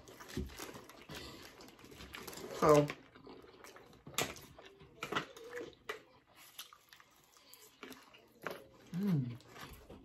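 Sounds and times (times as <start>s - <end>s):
people chewing food: 0.0s - 10.0s.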